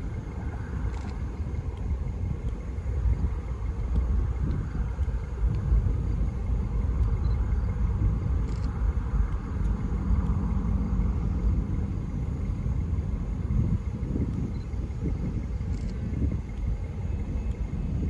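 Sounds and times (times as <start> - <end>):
diesel locomotive rumble: 0.0 - 18.0
wind buffeting microphone: 0.0 - 18.0.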